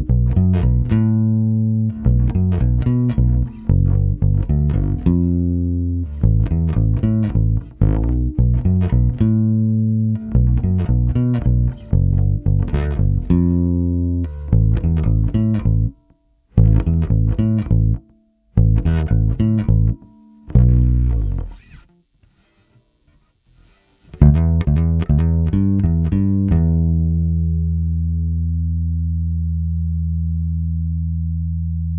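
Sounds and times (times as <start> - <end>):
electric bass plucked notes: 0.0 - 21.9, 23.6 - 31.9.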